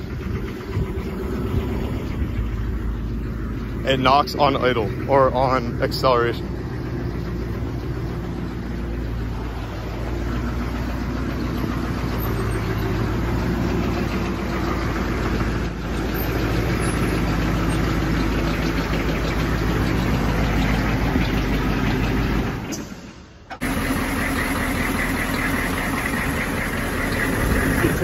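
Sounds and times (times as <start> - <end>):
diesel engine idling with knock: 0.0 - 28.0.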